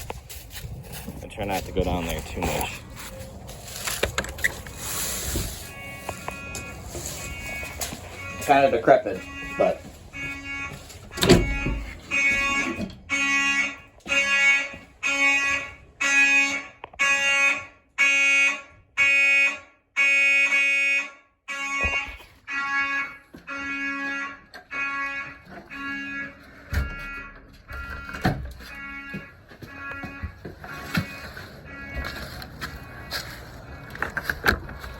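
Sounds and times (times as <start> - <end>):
fire alarm horns pulsing: 1.3 - 34.9.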